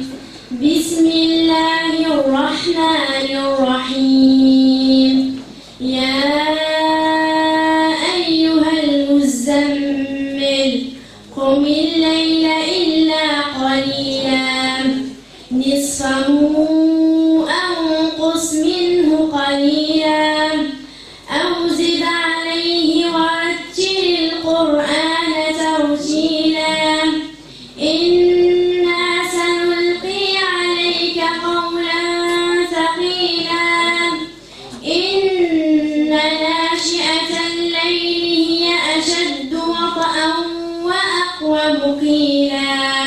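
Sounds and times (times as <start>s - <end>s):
girl chanting melodically: 0.0s - 43.0s.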